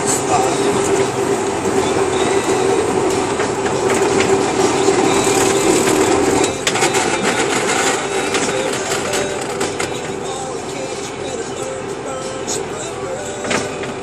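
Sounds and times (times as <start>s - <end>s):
truck diesel engine drone in cab: 0.0s - 14.0s.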